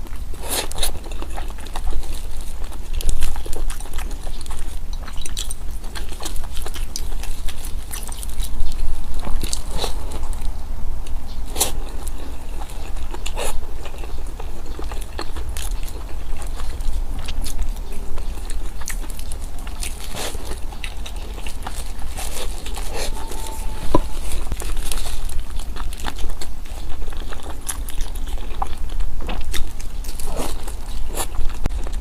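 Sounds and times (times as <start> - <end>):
person chewing food: 0.0 - 32.0
steady low hum: 0.0 - 32.0.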